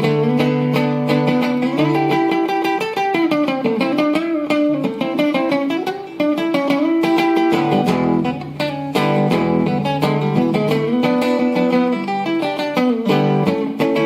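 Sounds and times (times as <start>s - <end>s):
blues guitar bent notes: 0.0s - 14.0s
picked guitar rhythm: 0.0s - 14.0s.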